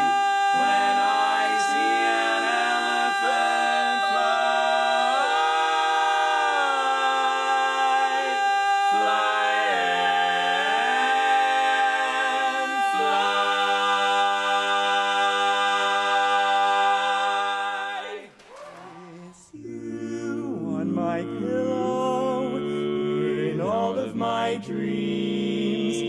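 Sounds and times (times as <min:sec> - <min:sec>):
a cappella group singing chords: 0:00.0 - 0:18.4, 0:19.3 - 0:26.0.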